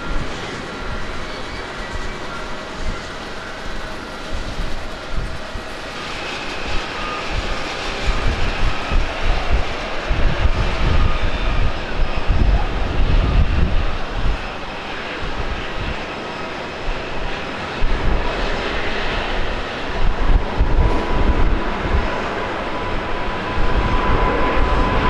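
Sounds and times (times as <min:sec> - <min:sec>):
distant jet engines roaring: 0:00.0 - 0:25.0.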